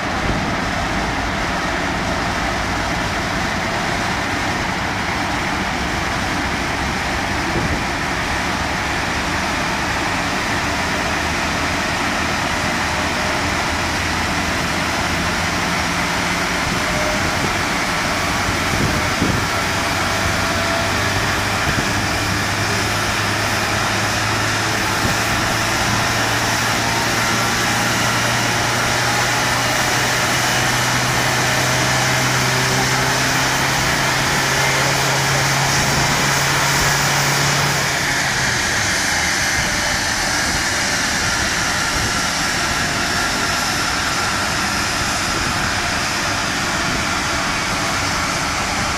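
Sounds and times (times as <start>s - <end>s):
car engine running on dynamometer: 0.0s - 48.9s
low hum rising in pitch: 0.0s - 48.9s.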